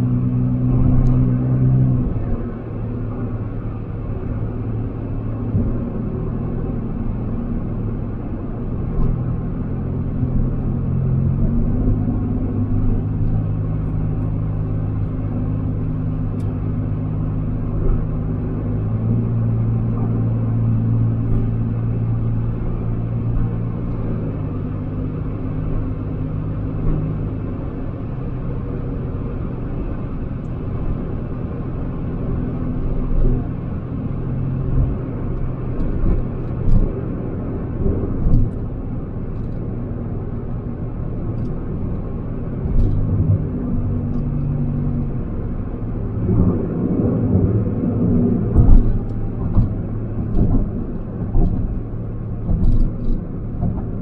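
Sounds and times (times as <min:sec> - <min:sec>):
car engine drone in cabin: 0:00.0 - 0:54.0.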